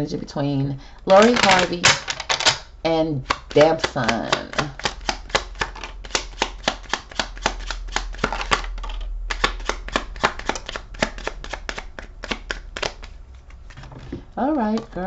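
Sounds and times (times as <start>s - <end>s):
cards being shuffled: 1.1s - 2.6s, 3.2s - 15.0s.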